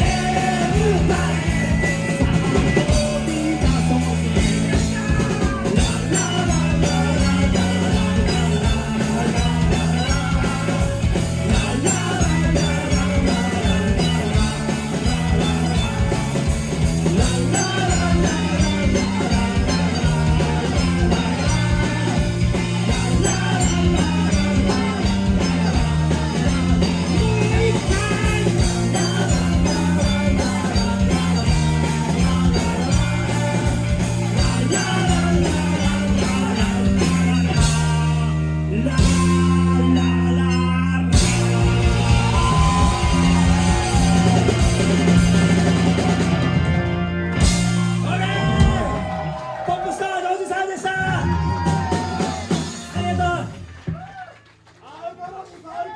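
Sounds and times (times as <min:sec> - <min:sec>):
steady drum beat: 0:00.0 - 0:38.3, 0:41.2 - 0:49.9, 0:51.0 - 0:54.2
rock band playing live: 0:00.0 - 0:54.1.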